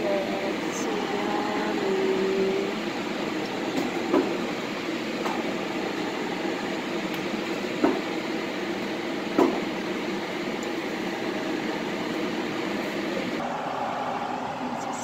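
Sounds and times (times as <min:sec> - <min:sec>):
fan whirring: 0:00.0 - 0:15.0.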